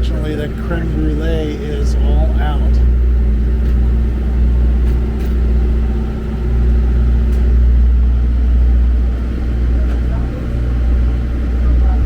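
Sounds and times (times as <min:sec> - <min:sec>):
generators droning: 0:00.0 - 0:12.0.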